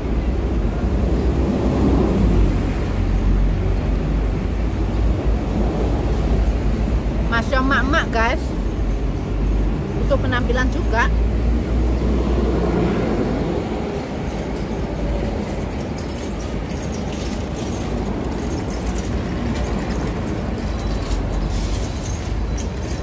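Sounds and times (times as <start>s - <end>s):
city traffic rumble: 0.0s - 23.0s.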